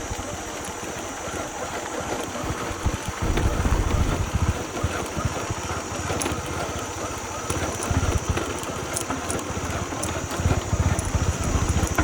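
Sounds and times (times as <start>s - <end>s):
small motorbike engine rumbling: 0.0s - 12.0s.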